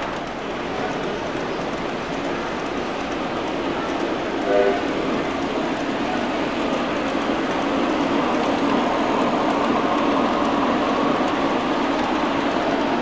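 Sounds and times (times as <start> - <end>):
model train wheels rumbling on rails: 0.0 - 13.0.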